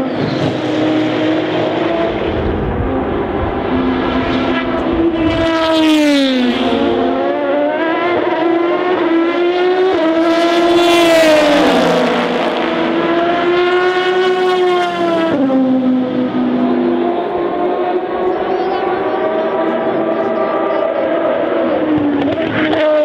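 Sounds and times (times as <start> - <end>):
race car engine passing: 0.0 - 23.0.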